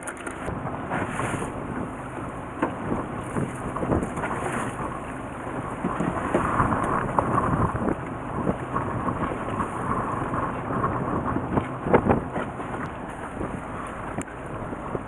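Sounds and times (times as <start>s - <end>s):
fishing boat engine noise: 0.0s - 15.0s
wind buffeting microphone: 0.4s - 15.0s.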